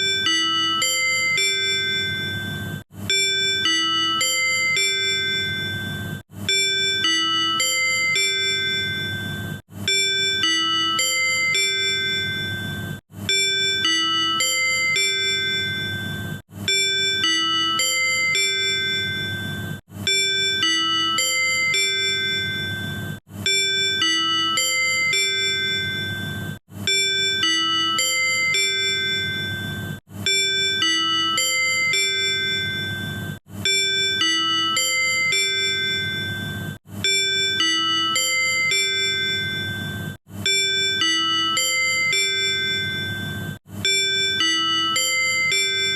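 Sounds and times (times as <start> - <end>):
ringing chime notes: 0.0 - 45.9.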